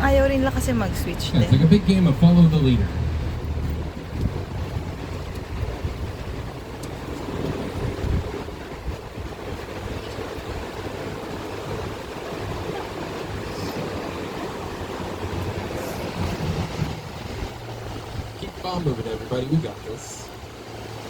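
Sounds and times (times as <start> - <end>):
low rumble: 0.0 - 21.0
wind rushing on microphone: 0.0 - 21.0.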